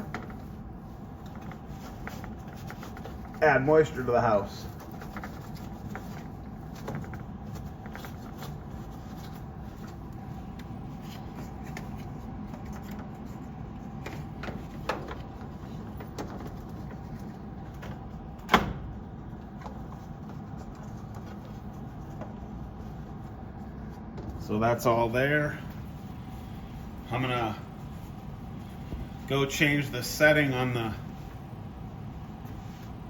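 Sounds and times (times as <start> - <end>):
furnace hum: 0.0 - 33.0.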